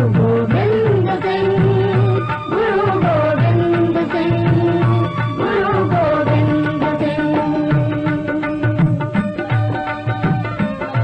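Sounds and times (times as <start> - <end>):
folk song melody: 0.0 - 11.0.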